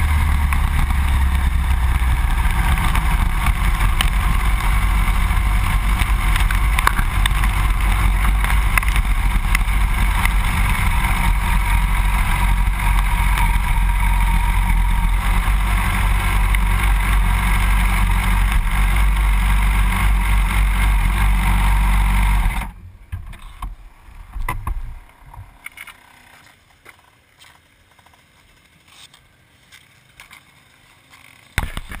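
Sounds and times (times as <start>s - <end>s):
motorcycle engine and tyre noise: 0.0s - 32.0s.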